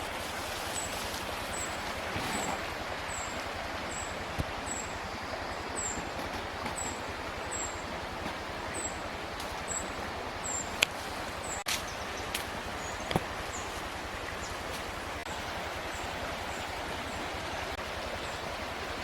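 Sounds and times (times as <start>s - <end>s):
hiss of running water or wind: 0.0s - 19.0s.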